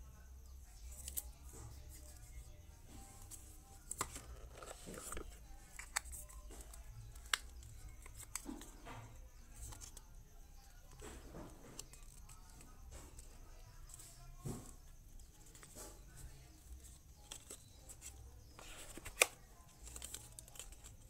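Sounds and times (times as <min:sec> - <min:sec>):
handling plastic charger and cable: 0:03.2 - 0:10.0, 0:10.7 - 0:21.0.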